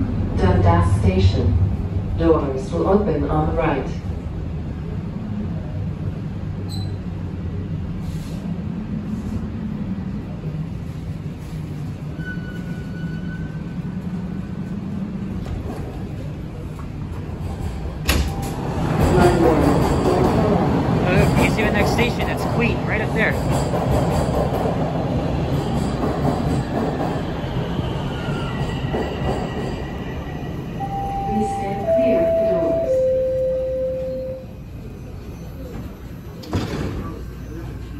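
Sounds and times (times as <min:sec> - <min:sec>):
subway train wheels rumbling: 0:00.0 - 0:37.9.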